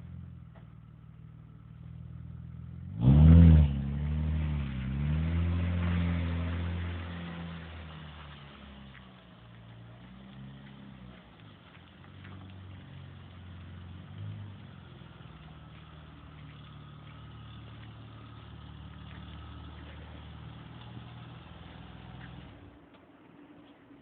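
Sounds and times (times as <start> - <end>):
car engine idling: 0.0 - 3.0, 5.6 - 24.0.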